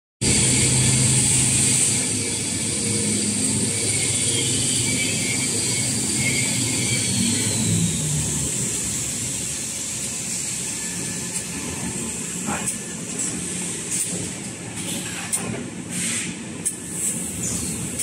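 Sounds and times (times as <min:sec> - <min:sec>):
production line machinery din: 0:00.2 - 0:18.0.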